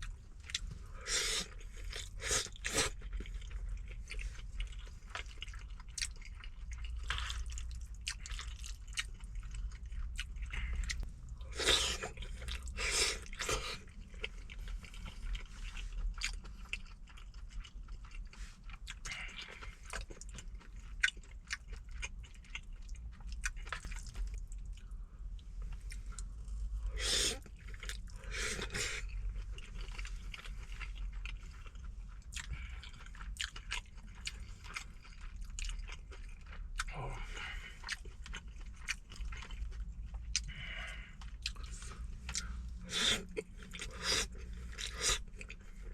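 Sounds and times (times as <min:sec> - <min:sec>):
low steady hum: 0:00.0 - 0:45.9
wet chewing and lip smacking: 0:00.0 - 0:45.9.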